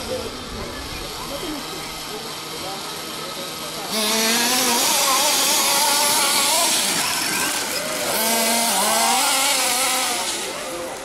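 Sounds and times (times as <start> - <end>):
small two-stroke engines revving: 0.0 - 11.0.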